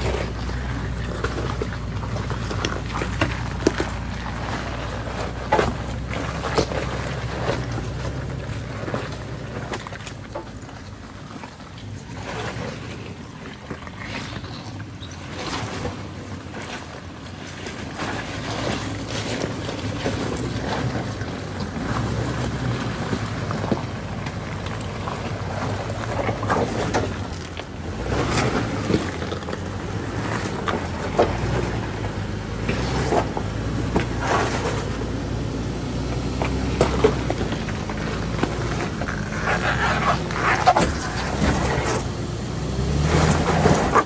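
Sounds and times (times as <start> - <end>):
engine running low: 0.0 - 44.0.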